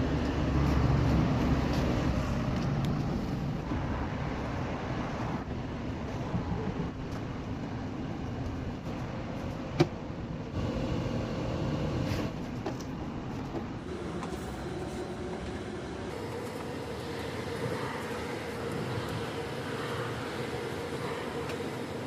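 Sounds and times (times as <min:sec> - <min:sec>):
air conditioner fan rumbling: 0:00.0 - 0:22.0
steady hum: 0:03.2 - 0:22.0.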